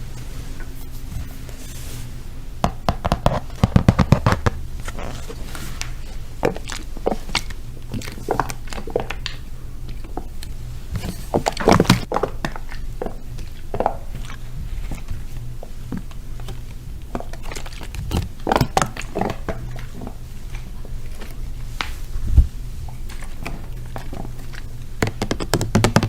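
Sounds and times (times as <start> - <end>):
steady low hum: 0.0 - 26.0
tapping and scratching on objects: 0.0 - 26.0.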